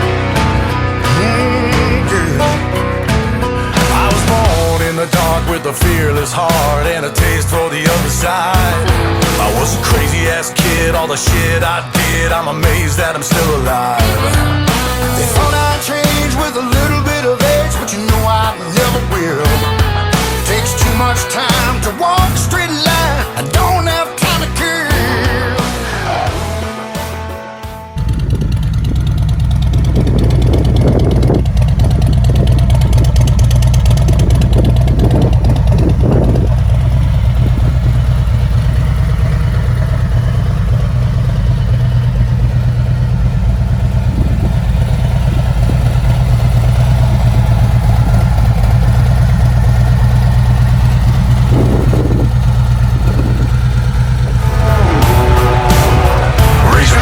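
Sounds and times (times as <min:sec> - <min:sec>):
motorcycle engine idling: 0:00.0 - 0:25.8, 0:27.9 - 0:57.0.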